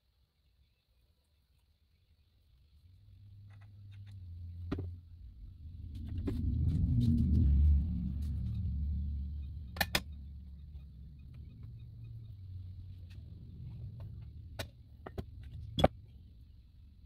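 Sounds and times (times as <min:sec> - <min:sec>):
low steady rumble: 0:01.9 - 0:17.0.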